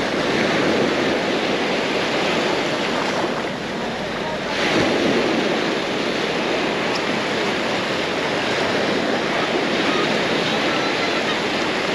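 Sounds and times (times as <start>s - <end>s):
surf washing onto beach: 0.0s - 11.9s.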